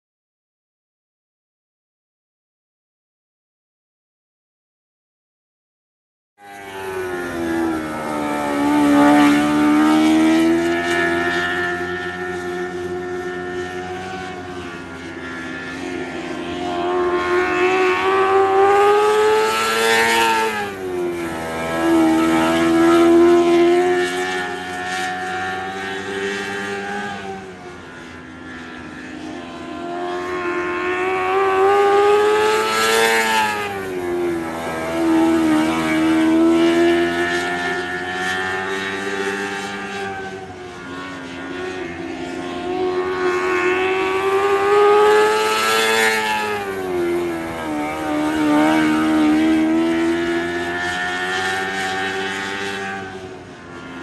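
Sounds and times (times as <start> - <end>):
race car engine passing by: 6.4 - 54.0.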